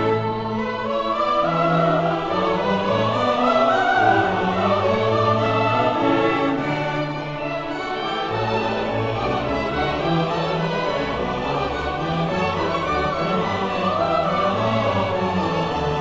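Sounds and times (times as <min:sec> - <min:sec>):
orchestra playing: 0:00.0 - 0:16.0
voices singing: 0:00.0 - 0:16.0.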